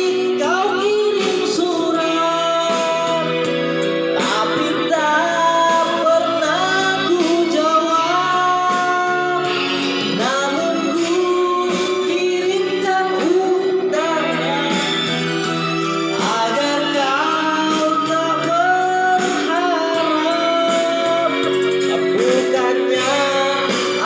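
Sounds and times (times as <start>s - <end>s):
guitar accompaniment: 0.0s - 24.0s
person singing: 0.0s - 24.0s.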